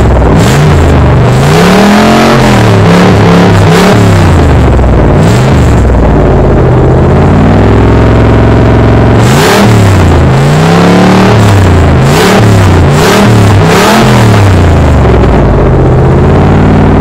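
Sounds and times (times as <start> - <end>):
loud unmuffled car engine revving: 0.0 - 17.0.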